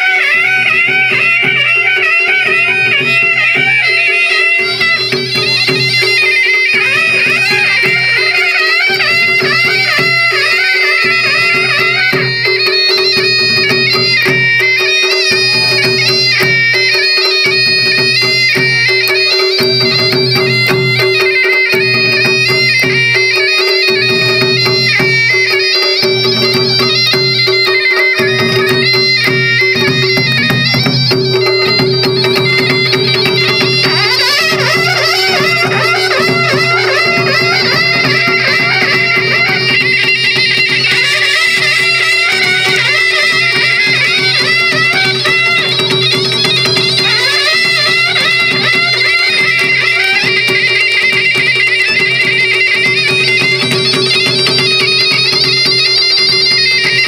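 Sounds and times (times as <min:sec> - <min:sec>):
bagpipe melody over drone: 0:00.0 - 0:57.0
drums beating: 0:00.0 - 0:57.0.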